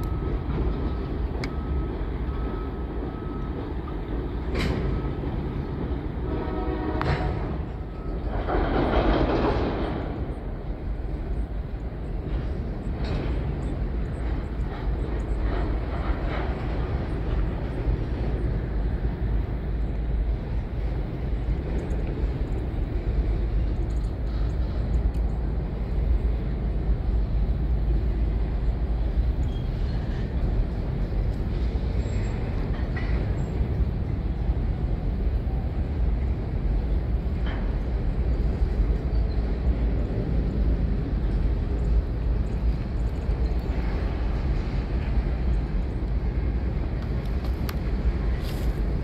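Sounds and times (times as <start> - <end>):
freight cars rumbling over bridge: 0.0 - 49.0.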